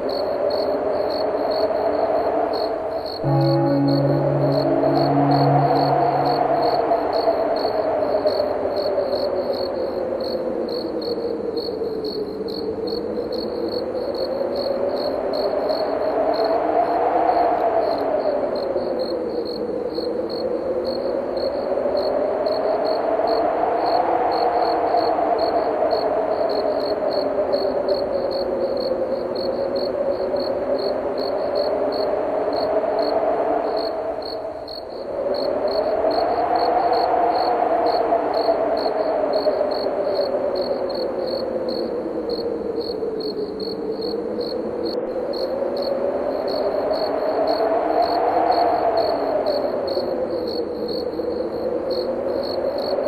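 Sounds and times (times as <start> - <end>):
crickets chirping: 0.0 - 53.0
wind howling: 0.0 - 53.0.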